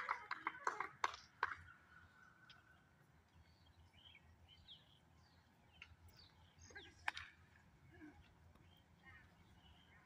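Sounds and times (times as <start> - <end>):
bird chirps: 1.2 - 7.5, 8.1 - 10.0.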